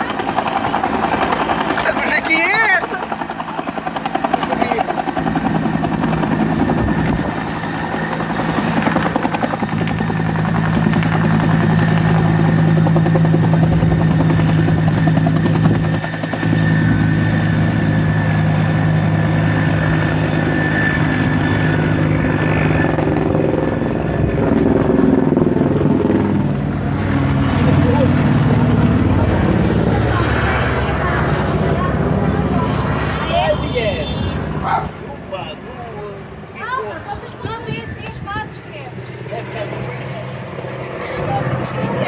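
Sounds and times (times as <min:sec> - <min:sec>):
helicopter rotor and engine: 0:00.0 - 0:42.0.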